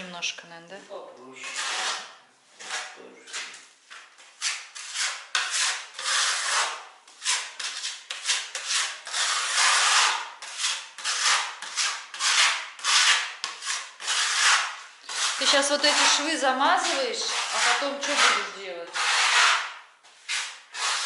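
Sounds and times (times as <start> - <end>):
putty knife scraping filler: 1.4 - 21.0.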